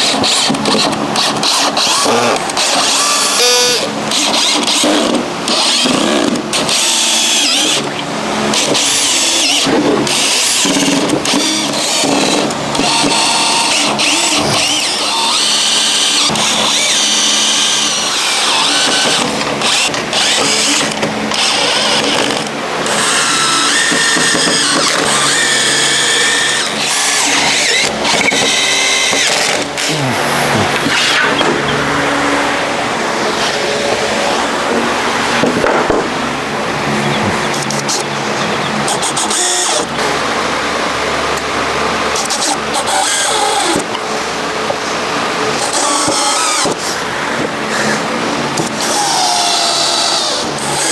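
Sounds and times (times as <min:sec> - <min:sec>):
power tools running: 0:00.0 - 0:50.9.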